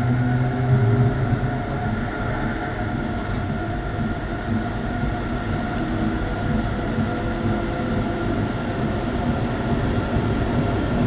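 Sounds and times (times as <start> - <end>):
locomotive converter humming: 0.0 - 11.0
train rolling noise: 0.0 - 11.0.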